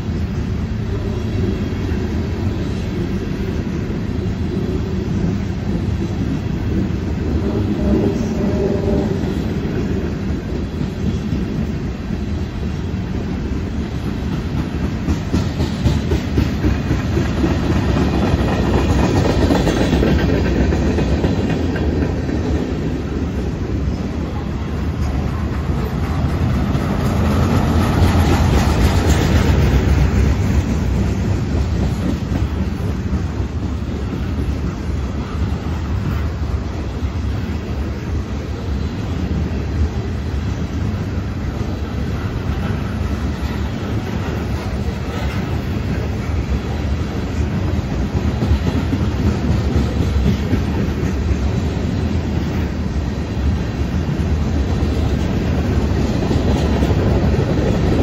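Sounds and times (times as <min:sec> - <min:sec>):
freight train rumbling past: 0:00.0 - 0:58.0
wheels clacking on rails: 0:00.0 - 0:58.0.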